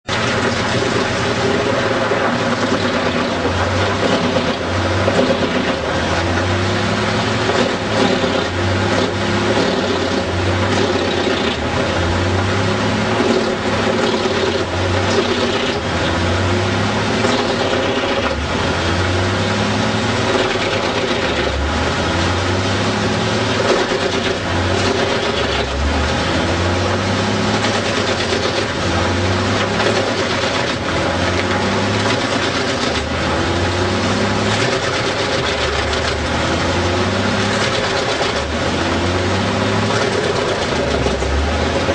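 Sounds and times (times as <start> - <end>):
wood chipper running: 0.0 - 41.9.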